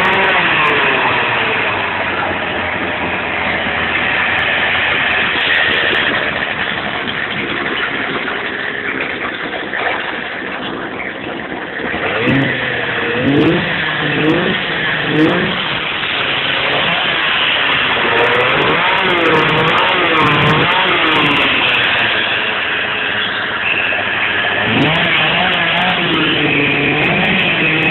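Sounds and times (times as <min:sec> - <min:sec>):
chainsaw engine revving: 0:00.0 - 0:09.2, 0:11.8 - 0:27.9.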